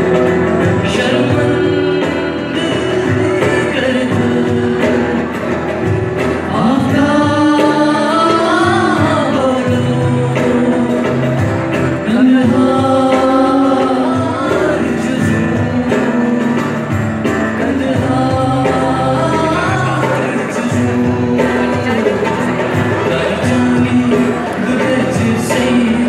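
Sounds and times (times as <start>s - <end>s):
acoustic guitars: 0.0s - 26.0s
person singing long held notes: 0.0s - 26.0s.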